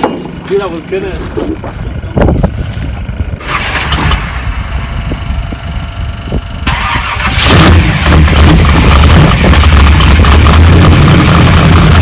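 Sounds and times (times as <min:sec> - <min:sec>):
truck engine starting and running: 0:00.0 - 0:12.0.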